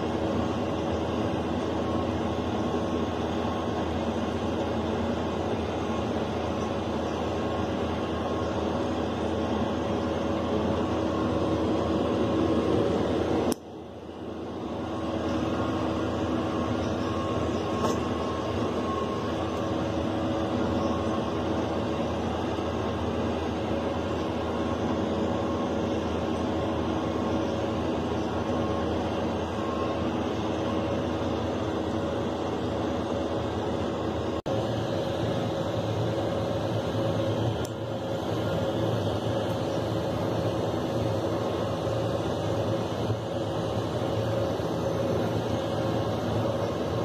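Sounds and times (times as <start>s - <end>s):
tractor and mower running: 0.0s - 47.0s.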